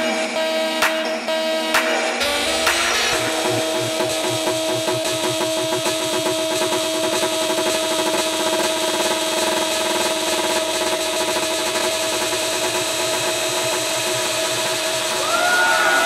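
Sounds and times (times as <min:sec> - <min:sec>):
minimal techno music: 0:00.0 - 0:16.0.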